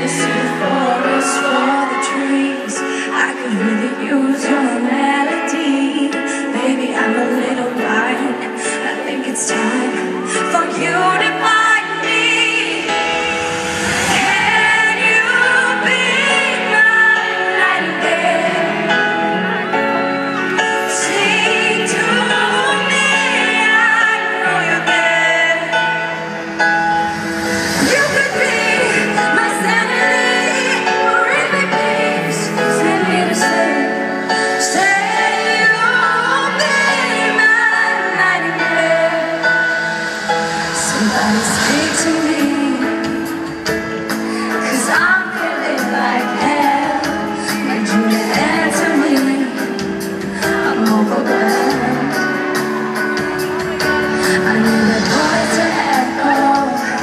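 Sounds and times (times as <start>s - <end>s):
woman singing a slow ballad: 0.0s - 19.2s, 20.7s - 25.9s, 27.8s - 39.8s, 40.7s - 52.6s, 53.9s - 57.0s.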